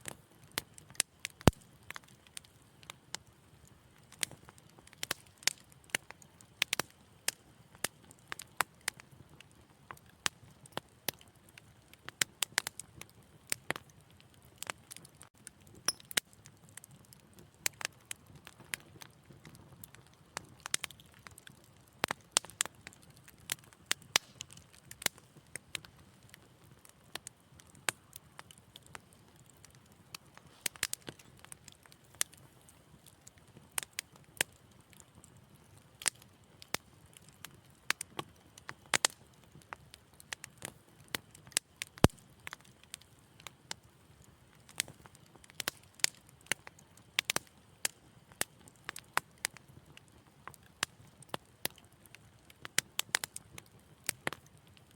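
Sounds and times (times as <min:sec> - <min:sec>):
low hiss of burning: 0:00.0 - 0:54.9
wood fire crackling: 0:00.0 - 0:54.9.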